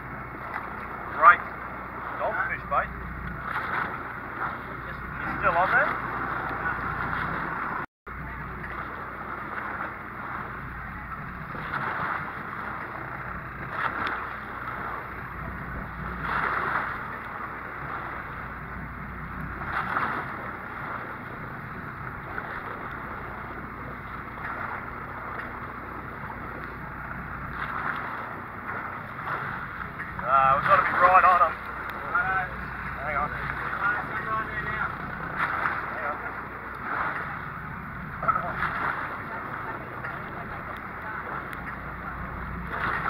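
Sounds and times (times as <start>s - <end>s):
boat engine hum: 0.0s - 43.0s
water washing against hull: 0.0s - 43.0s
wind on microphone: 0.0s - 43.0s.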